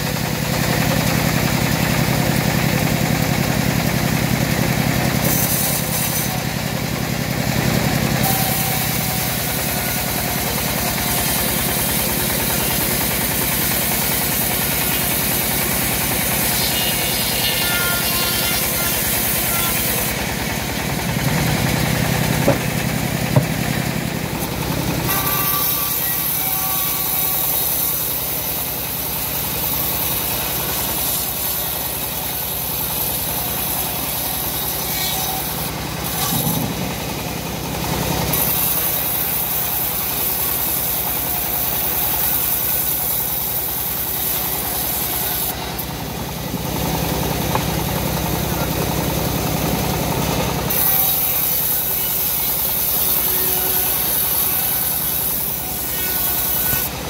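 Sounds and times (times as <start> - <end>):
engine hum: 0.0 - 26.4, 28.0 - 40.6, 43.8 - 50.8
band saw blade cutting wood: 0.6 - 57.0.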